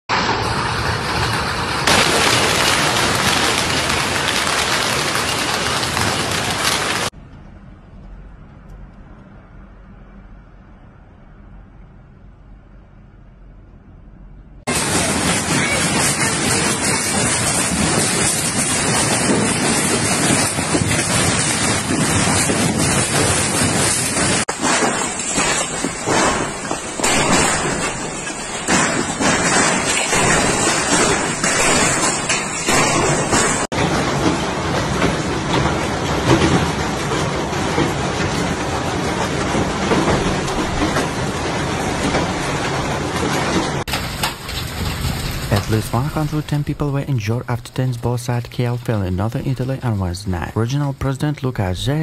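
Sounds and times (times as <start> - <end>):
heavy hail on paving: 0.1 - 7.2, 14.7 - 52.0.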